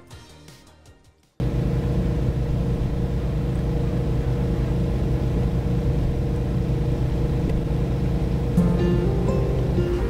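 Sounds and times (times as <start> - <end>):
car engine idling: 1.4 - 10.0.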